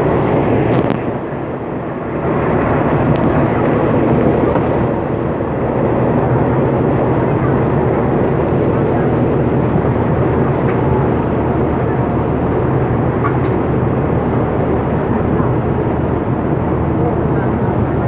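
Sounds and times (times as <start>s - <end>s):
train engine and wheels rumbling: 0.0s - 18.0s.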